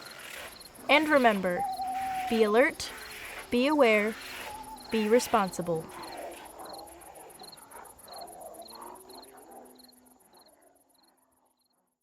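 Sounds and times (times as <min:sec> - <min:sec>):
crickets chirping: 0:00.0 - 0:11.8.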